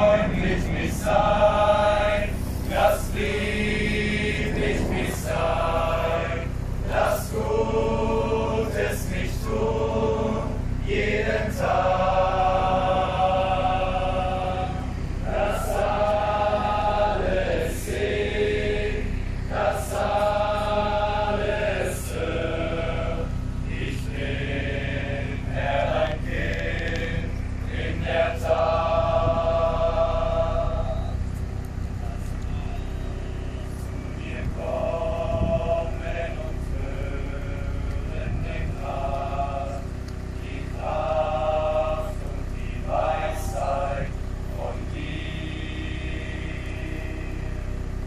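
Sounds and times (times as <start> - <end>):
crowd singing a hymn: 0.0 - 48.0.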